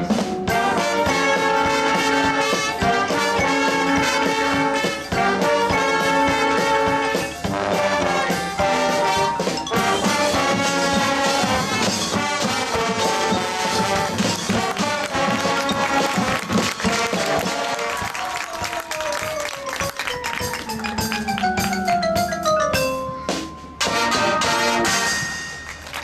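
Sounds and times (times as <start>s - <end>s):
brass chords: 0.0s - 23.0s, 23.8s - 25.4s
marching percussion: 0.0s - 26.0s.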